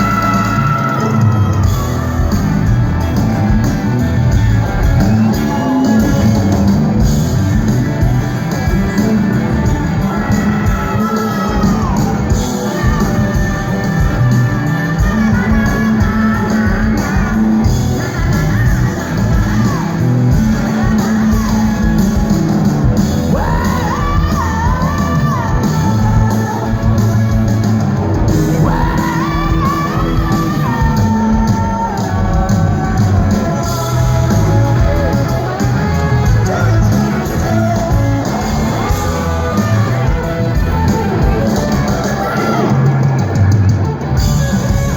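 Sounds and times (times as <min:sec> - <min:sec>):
live rock band playing: 0:00.0 - 0:44.9
person singing: 0:04.7 - 0:43.4.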